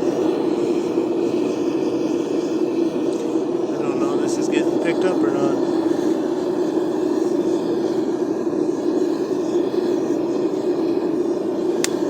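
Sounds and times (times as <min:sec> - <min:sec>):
propane burner flame rushing: 0:00.0 - 0:12.0.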